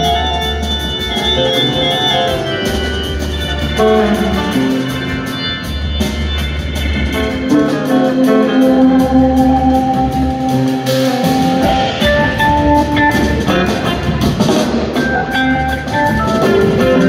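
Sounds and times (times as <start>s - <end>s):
bass guitar: 0.0s - 17.0s
drum beat with cymbals: 0.0s - 17.0s
electric guitar melody: 0.0s - 17.0s.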